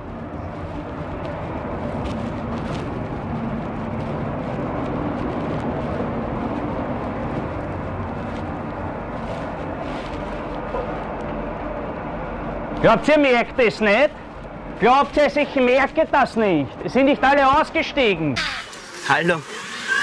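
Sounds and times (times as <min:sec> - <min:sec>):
metro train carriage rumble: 0:00.0 - 0:18.4
low hum: 0:00.0 - 0:18.9.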